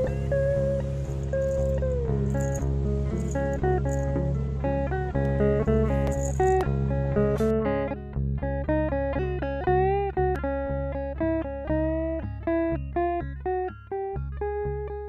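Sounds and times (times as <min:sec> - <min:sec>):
slide guitar melody: 0:00.0 - 0:15.0.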